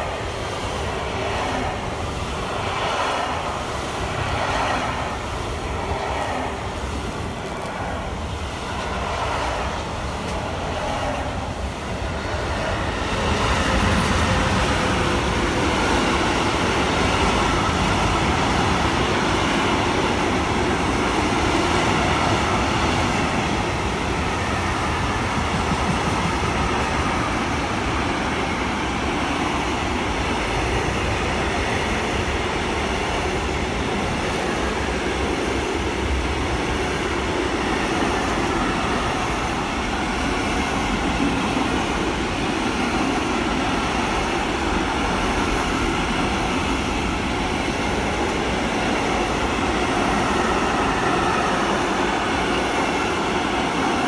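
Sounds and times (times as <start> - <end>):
freight train rolling past: 0.0 - 54.0
wheels rumbling on rails: 0.0 - 54.0.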